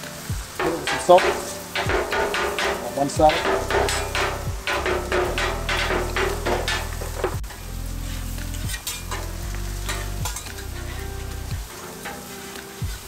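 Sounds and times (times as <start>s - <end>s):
background music with sustained chords: 0.0s - 13.0s
food sizzling on a griddle: 0.0s - 13.0s
metal spatula scraping steel: 0.5s - 12.8s.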